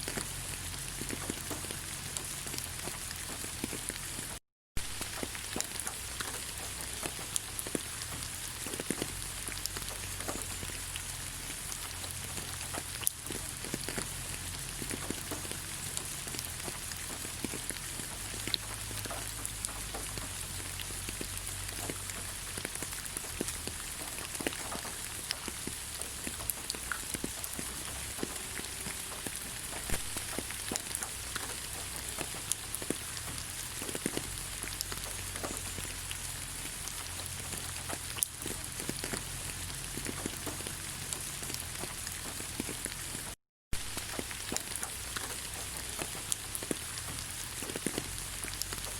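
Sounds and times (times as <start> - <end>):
rain falling on leaves: 0.0 - 48.9.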